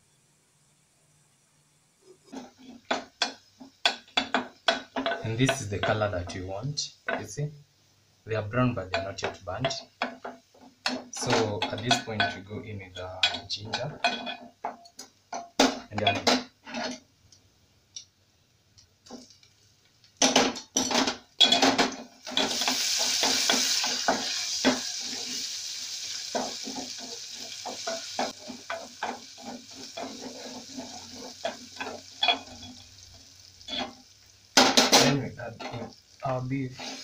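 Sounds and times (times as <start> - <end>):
loud sizzle in a pot: 0.0 - 37.0.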